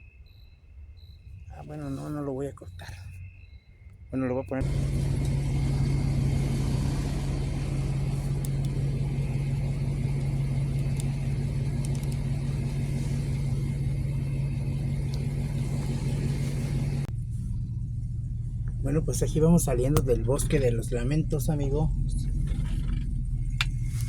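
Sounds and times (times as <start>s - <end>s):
vehicle engine running: 4.5s - 24.0s.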